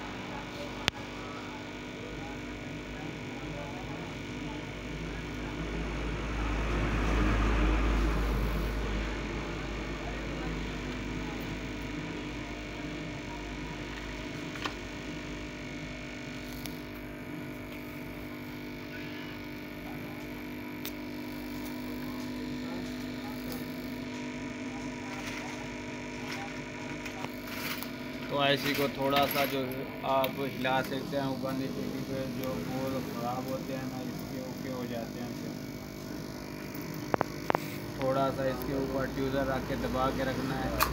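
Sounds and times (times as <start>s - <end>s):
hot-air station blowing whir: 0.0s - 40.9s.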